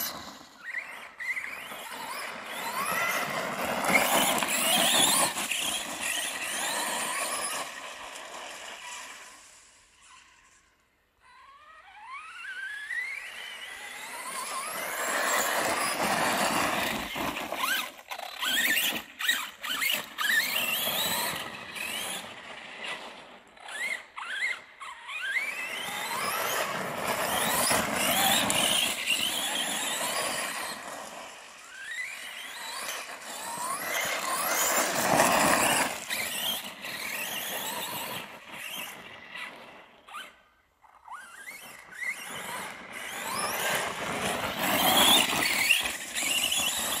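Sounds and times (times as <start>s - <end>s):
rc truck motor whining: 0.0s - 47.0s.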